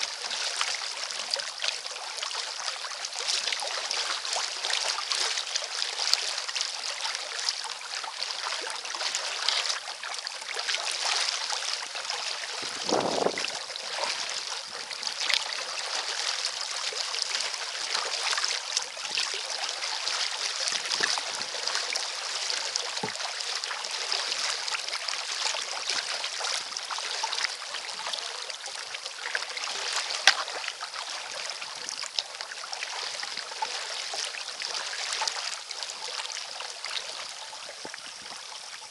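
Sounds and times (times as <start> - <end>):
small drips and clicks: 0.0 - 38.9
water lapping against kayak: 0.0 - 38.9.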